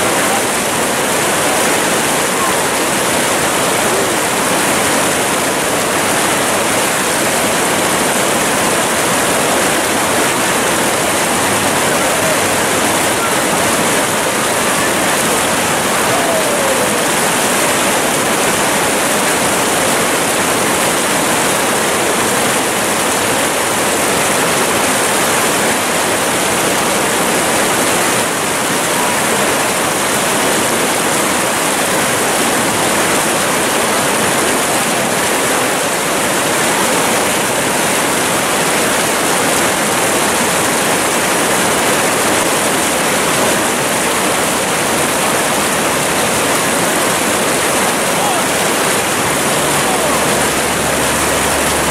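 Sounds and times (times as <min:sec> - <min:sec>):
whitewater rapid rushing: 0:00.0 - 0:51.9.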